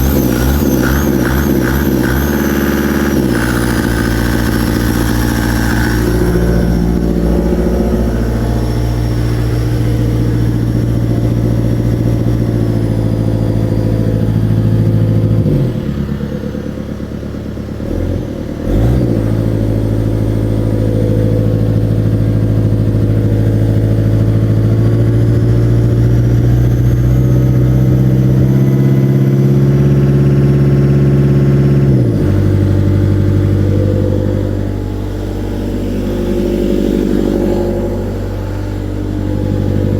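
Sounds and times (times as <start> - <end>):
diesel engine misfiring: 0.0 - 39.9.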